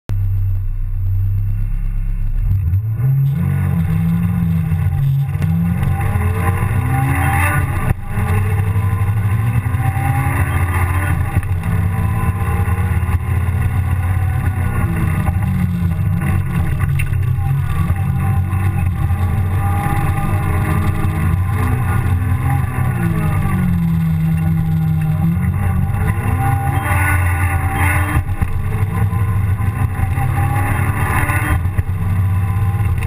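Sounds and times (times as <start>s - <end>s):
car engine revving: 0.1s - 33.0s.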